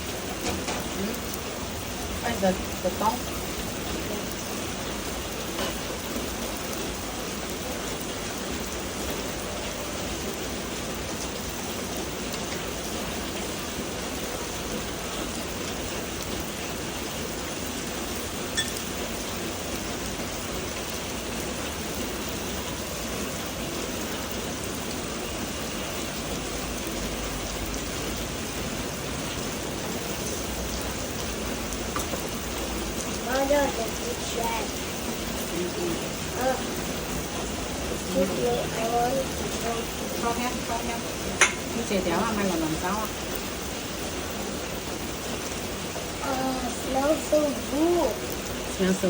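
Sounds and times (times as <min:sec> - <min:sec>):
meat sizzling on a grill: 0:00.0 - 0:49.0.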